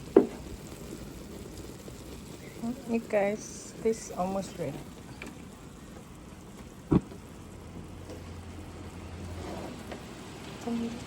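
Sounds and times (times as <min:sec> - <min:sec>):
sauce sizzling in a pan: 0:00.0 - 0:06.6, 0:07.2 - 0:11.0.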